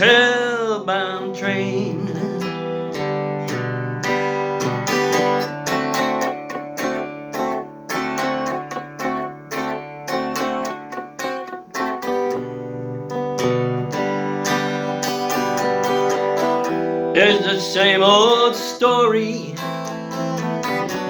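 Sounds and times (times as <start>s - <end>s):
acoustic guitar country melody: 0.0s - 21.0s.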